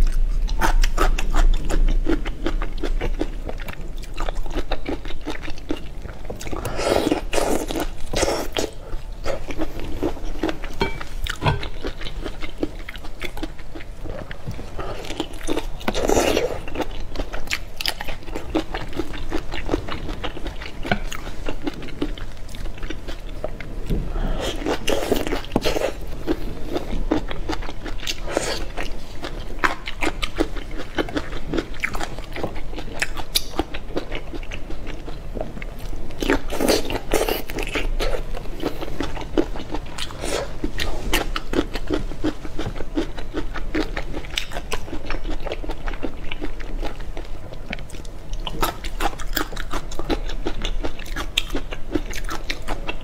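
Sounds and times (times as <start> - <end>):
crunchy chewing of shrimp shells: 0.0 - 53.0.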